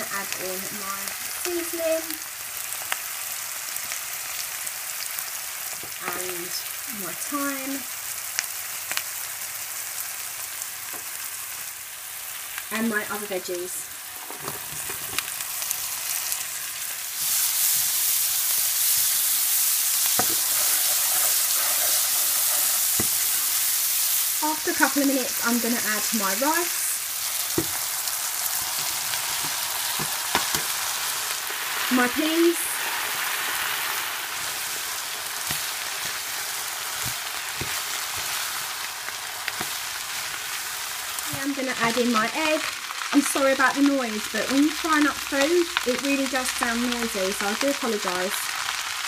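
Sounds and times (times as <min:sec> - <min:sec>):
vegetables sizzling in a wok: 0:00.0 - 0:49.0.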